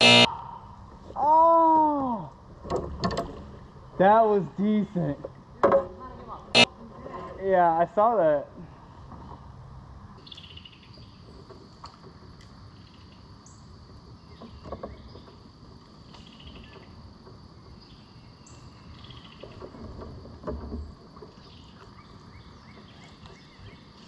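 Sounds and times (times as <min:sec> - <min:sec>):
insects droning: 0:00.0 - 0:24.0
wind and water hum: 0:00.0 - 0:24.0.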